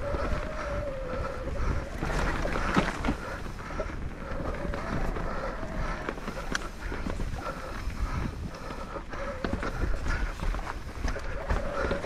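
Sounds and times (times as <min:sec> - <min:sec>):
bike tyres rolling on dirt: 0:00.0 - 0:12.0
wind buffeting microphone: 0:00.0 - 0:12.0.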